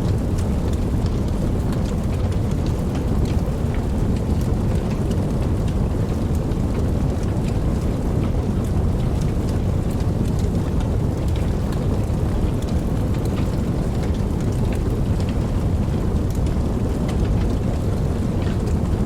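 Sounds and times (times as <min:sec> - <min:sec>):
steady rain: 0:00.0 - 0:19.0
raindrop ticks: 0:00.1 - 0:19.0.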